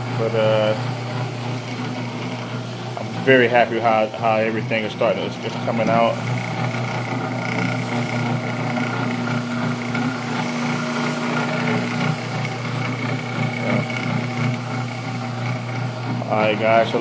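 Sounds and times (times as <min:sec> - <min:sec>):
floor machine motor humming: 0:00.0 - 0:17.0.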